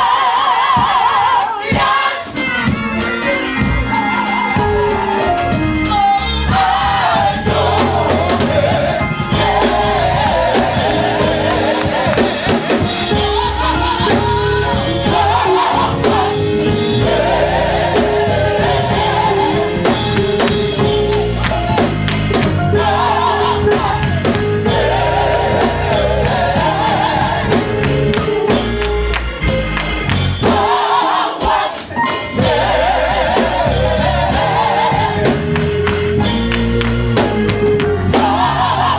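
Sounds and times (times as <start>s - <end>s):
gospel voices singing: 0.0s - 38.9s
instrumental backing with bass: 0.1s - 38.9s.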